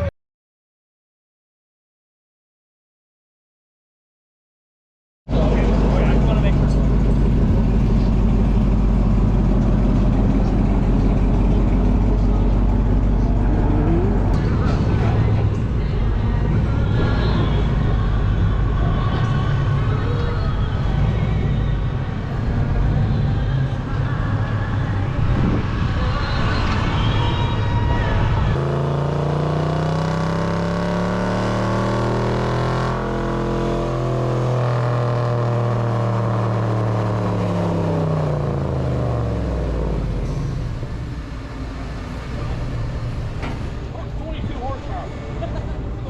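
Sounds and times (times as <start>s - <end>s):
vehicle engine running: 5.3s - 27.1s, 28.3s - 46.0s.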